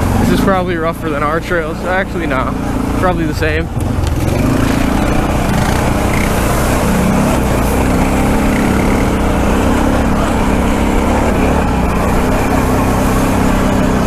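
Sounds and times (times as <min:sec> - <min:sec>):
atv engine droning: 0:00.0 - 0:14.0
ride over rocky trail: 0:00.0 - 0:14.0.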